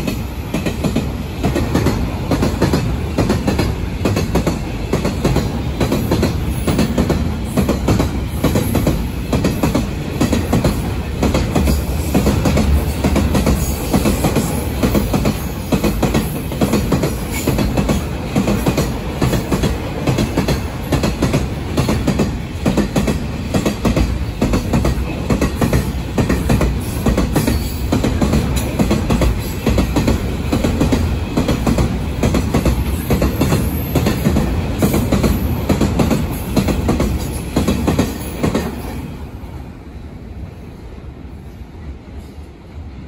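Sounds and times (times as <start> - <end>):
train wheels knocking on rails: 0.0 - 39.0.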